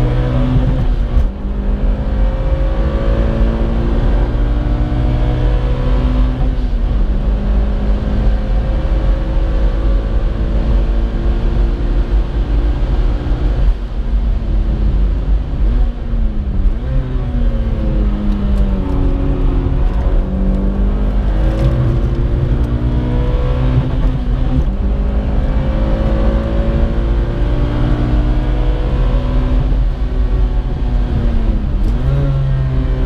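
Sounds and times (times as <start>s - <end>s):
car engine accelerating: 0.0s - 14.0s, 14.6s - 33.0s.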